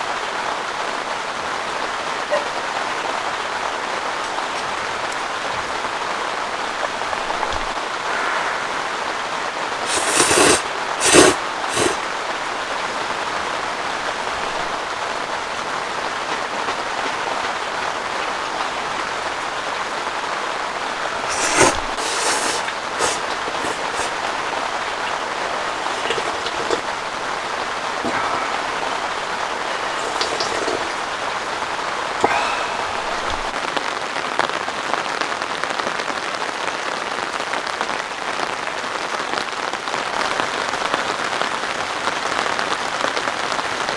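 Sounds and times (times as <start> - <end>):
heavy rain hissing: 0.0 - 35.5.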